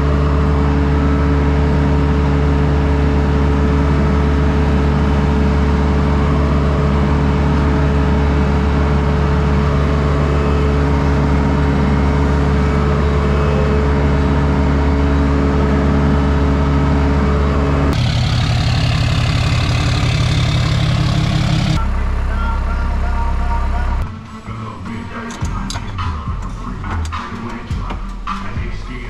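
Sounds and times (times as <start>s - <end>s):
skid steer engine running: 0.0s - 24.0s
low engine drone: 0.0s - 27.8s.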